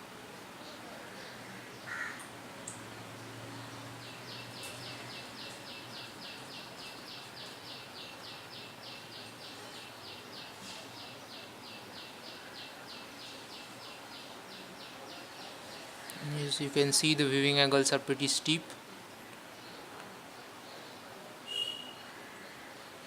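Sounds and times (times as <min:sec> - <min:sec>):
low background hiss: 0:00.0 - 0:23.0.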